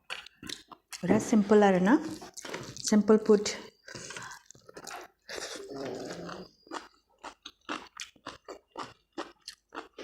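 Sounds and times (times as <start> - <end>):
person chewing crunchy food: 0.0 - 1.1, 2.0 - 3.0, 3.7 - 10.0.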